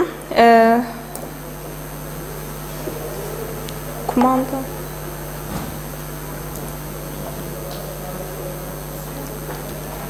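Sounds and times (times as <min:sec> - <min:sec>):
electrical hum and hiss: 0:00.0 - 0:10.0.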